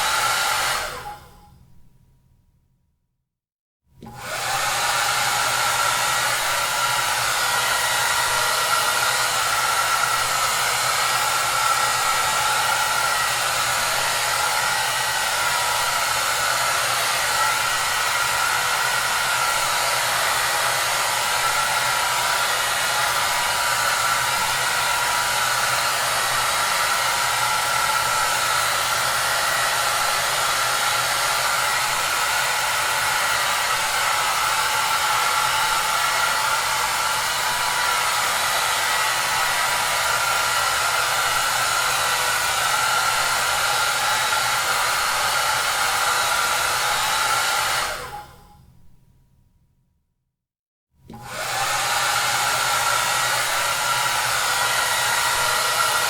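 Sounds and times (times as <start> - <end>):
hair dryer running: 0.0 - 1.5, 4.0 - 48.6, 51.1 - 56.0.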